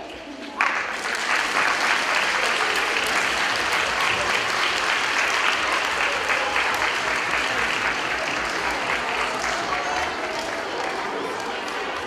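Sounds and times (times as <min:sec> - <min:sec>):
audience applause: 0:00.5 - 0:12.0.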